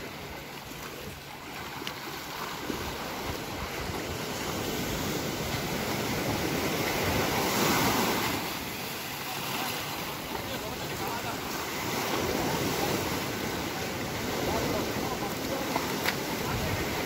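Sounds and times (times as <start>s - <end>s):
waves washing onto sand: 0.0s - 17.0s
wind on microphone: 2.4s - 17.0s.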